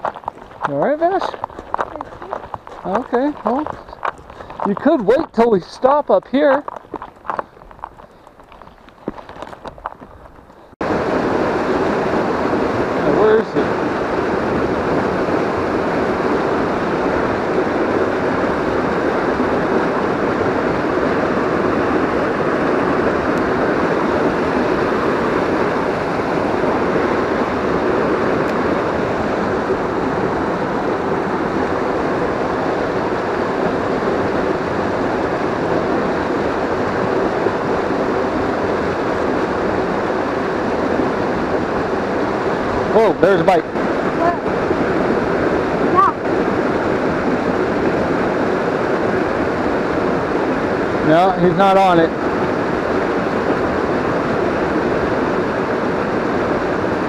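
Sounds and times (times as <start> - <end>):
whitewater rushing over boulders: 10.8 - 57.0.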